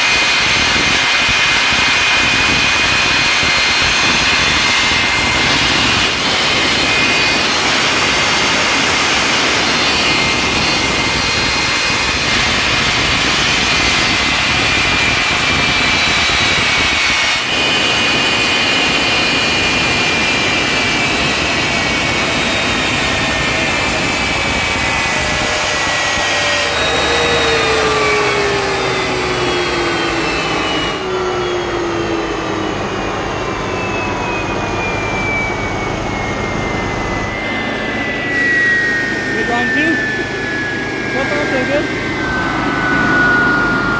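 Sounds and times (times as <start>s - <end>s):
turbojet engine roar and whine: 0.0s - 43.9s.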